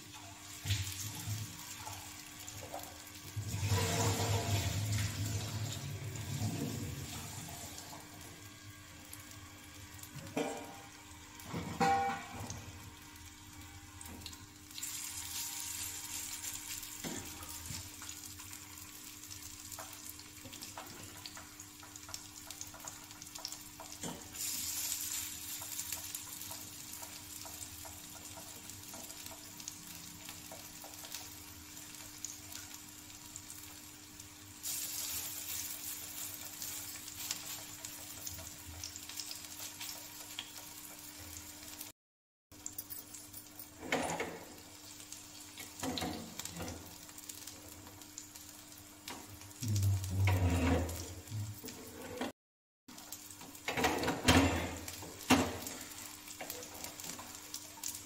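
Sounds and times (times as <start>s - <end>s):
patties sizzling on iron pan: 0.0s - 41.9s, 42.6s - 51.9s, 52.9s - 58.0s.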